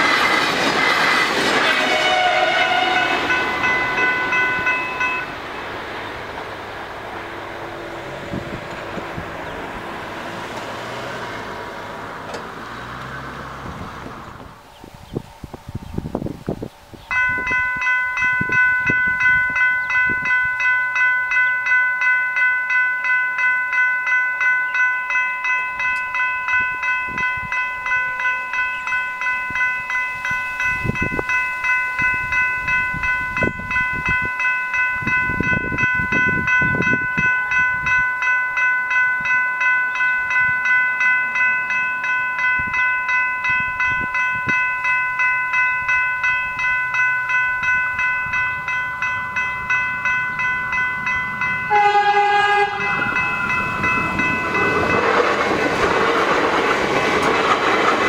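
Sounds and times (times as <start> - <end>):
level crossing bells ringing: 1.8 - 12.8, 17.1 - 56.4.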